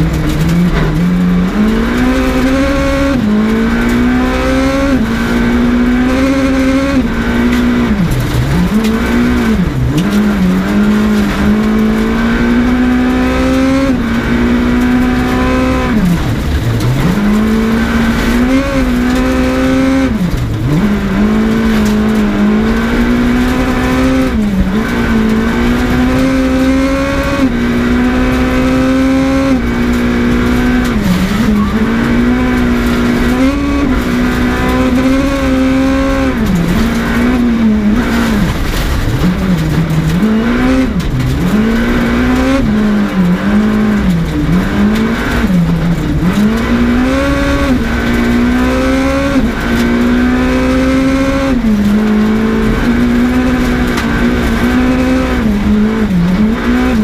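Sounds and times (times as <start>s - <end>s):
rally car engine revving high: 0.0s - 57.0s.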